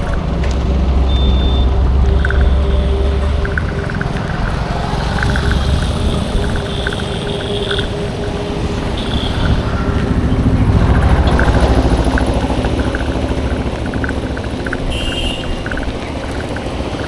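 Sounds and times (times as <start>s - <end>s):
light rapid ticking: 0.0s - 17.0s
vehicle engine rumble passing: 0.0s - 17.0s.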